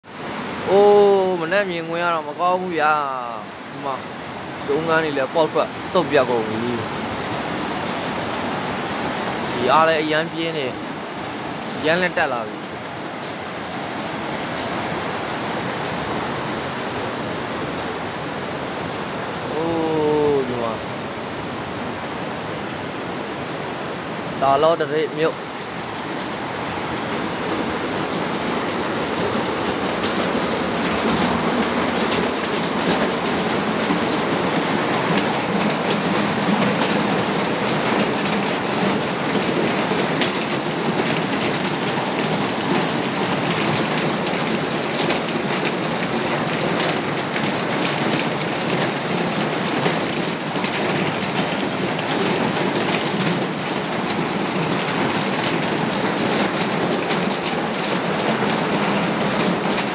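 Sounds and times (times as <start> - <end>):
rush of water: 0.0 - 59.9.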